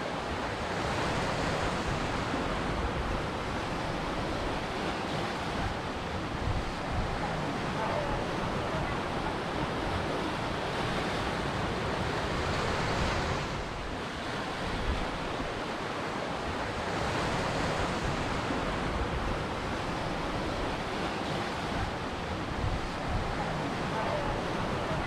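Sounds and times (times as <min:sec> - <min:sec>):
ocean waves washing in: 0:00.0 - 0:25.0.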